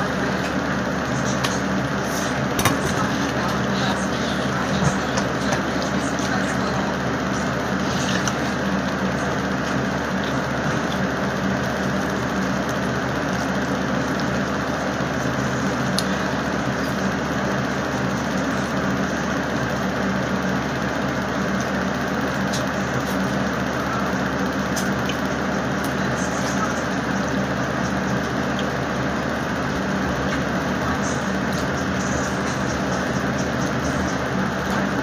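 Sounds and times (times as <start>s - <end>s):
mechanical hum and hiss: 0.0s - 35.0s.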